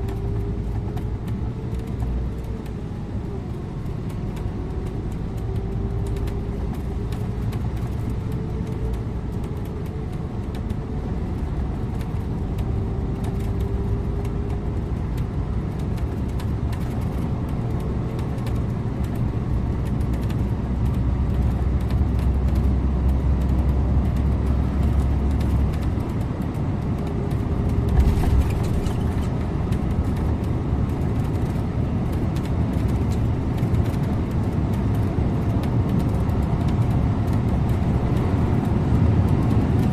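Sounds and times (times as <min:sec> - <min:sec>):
bus engine drone: 0:00.0 - 0:39.9
road rumble: 0:00.0 - 0:39.9.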